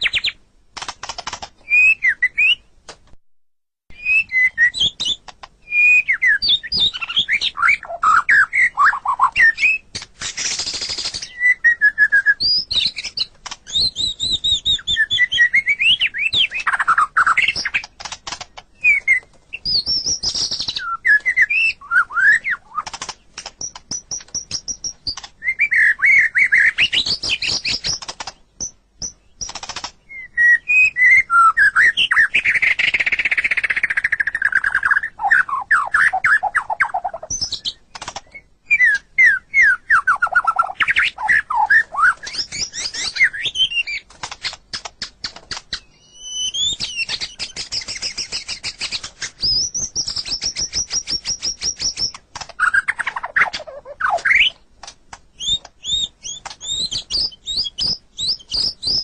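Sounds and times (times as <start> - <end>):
songbird singing whistles and trills: 0.0 - 0.4, 1.6 - 2.7, 3.9 - 17.9, 18.8 - 23.0, 23.6 - 54.6, 55.3 - 59.0.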